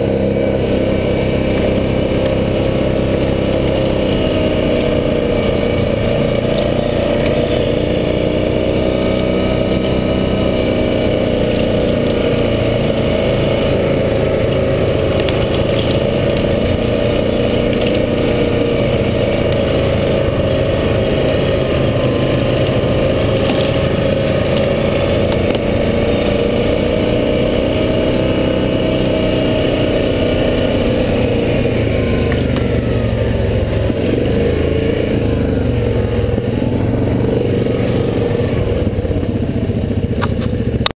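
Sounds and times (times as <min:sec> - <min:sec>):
quad bike engine running: 0:00.0 - 0:40.9.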